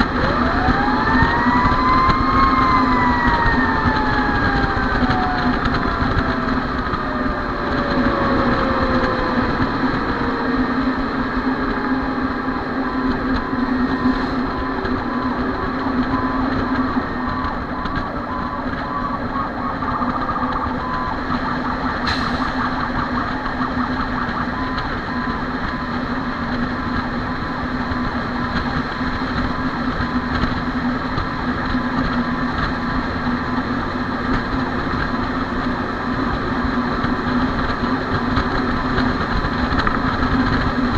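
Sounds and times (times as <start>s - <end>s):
fire engine drone: 0.0s - 40.9s
siren winding down: 0.0s - 40.9s.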